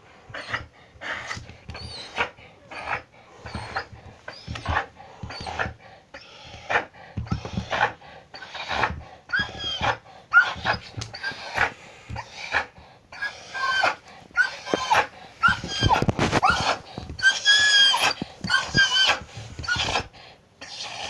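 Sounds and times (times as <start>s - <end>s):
dog gasping breaths: 0.0s - 21.0s.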